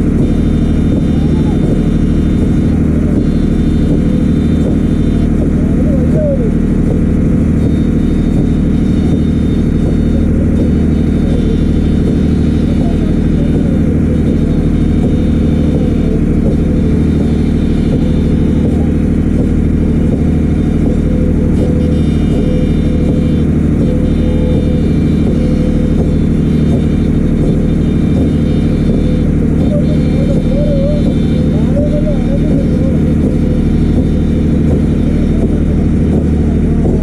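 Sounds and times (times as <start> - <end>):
motorboat engine running: 0.0 - 37.0.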